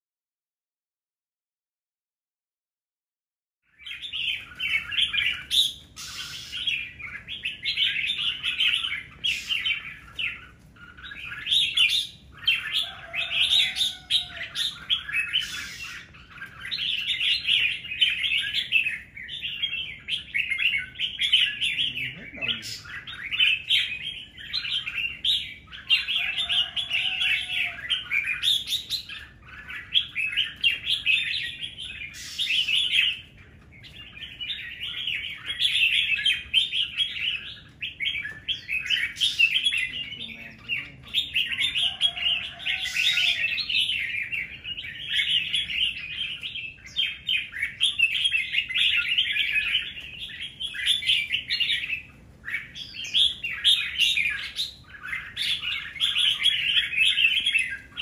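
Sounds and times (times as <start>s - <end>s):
birds chirping: 3.6s - 58.0s.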